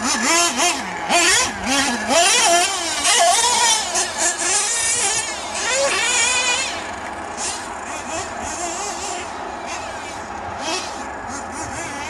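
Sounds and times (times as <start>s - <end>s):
model car engine revving: 0.0s - 12.0s.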